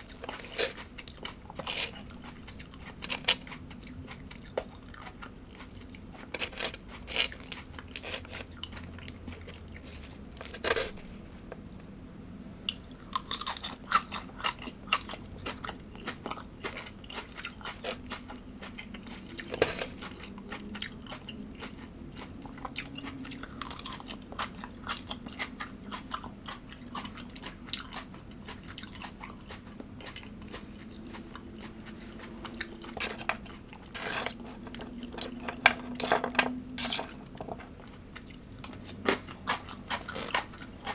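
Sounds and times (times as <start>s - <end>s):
person chewing crunchy food: 0.0s - 11.6s, 12.6s - 40.9s.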